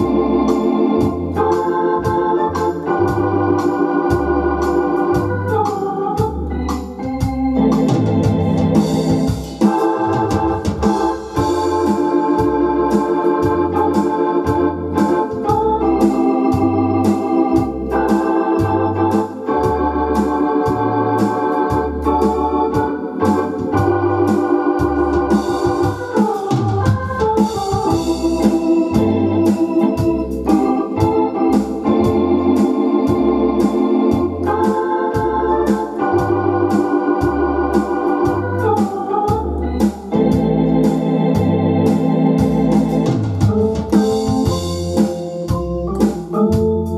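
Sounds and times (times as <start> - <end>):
home organ playing fox-trot: 0.0 - 46.9.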